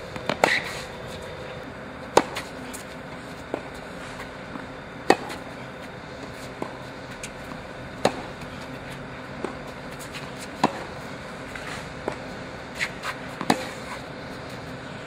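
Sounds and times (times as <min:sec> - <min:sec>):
tennis ball bouncing: 0:00.0 - 0:14.7
tennis racket hitting ball: 0:00.1 - 0:01.4, 0:02.0 - 0:14.6.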